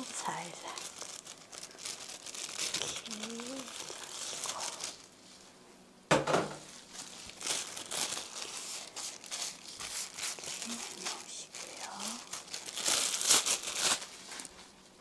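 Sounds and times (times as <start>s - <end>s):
plastic glove crinkling: 0.0s - 5.5s, 6.6s - 15.0s.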